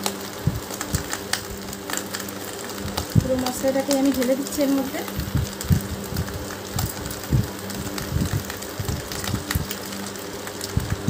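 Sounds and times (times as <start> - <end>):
oil sizzling in a pan: 0.0 - 11.0
steady low hum: 0.0 - 11.0.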